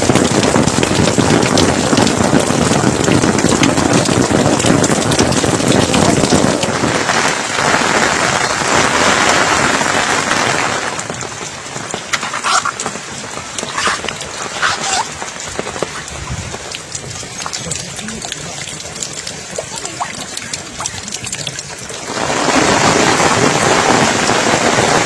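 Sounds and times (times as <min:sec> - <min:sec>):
heavy rain pattering: 0:00.0 - 0:25.0.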